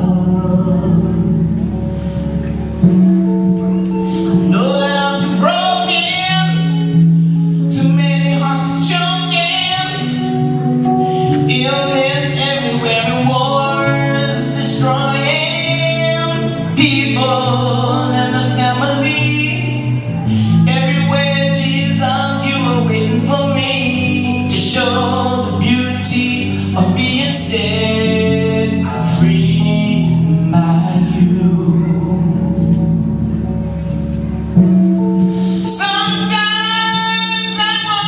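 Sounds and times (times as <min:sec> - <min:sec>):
person singing: 0:00.0 - 0:33.9, 0:35.1 - 0:38.0
electric bass low notes: 0:00.0 - 0:38.0.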